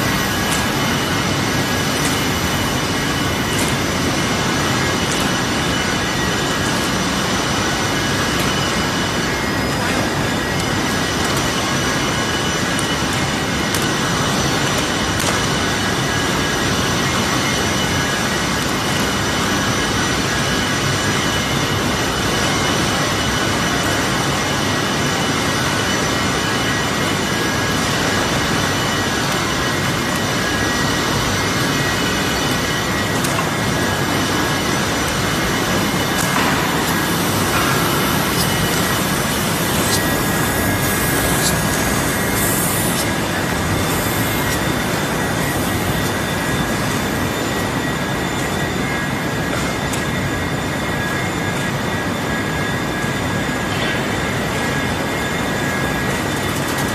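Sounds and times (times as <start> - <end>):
factory machinery rushing noise: 0.0 - 56.9
high machine whine: 0.0 - 56.9.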